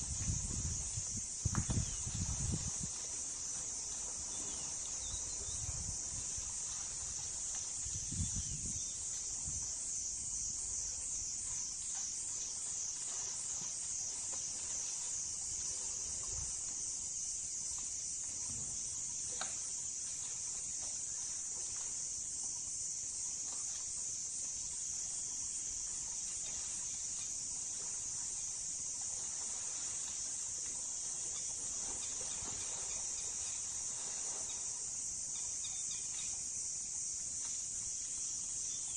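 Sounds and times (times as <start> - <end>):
chorus of insects: 0.0 - 38.9.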